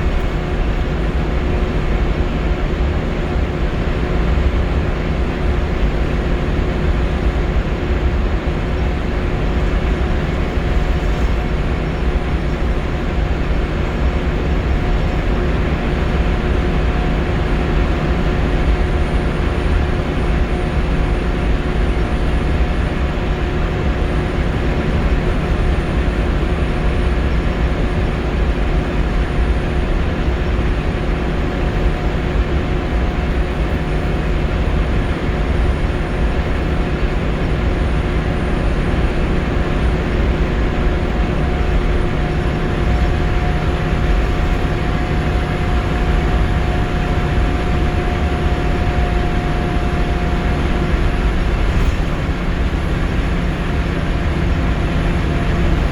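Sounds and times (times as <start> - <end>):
bus engine and road rumble: 0.0 - 55.9
steady whine: 0.0 - 55.9.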